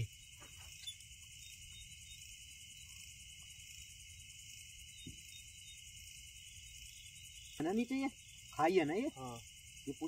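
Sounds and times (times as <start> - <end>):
crickets and night insects chirping: 0.0 - 10.0.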